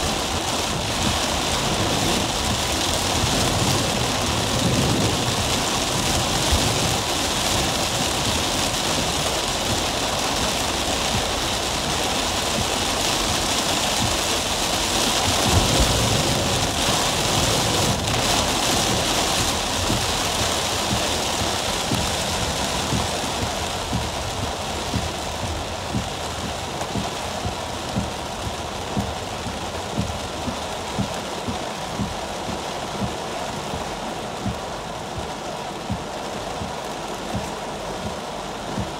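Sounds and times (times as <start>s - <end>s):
heavy rain on car roof: 0.0s - 38.9s
raindrops tapping: 0.0s - 38.9s.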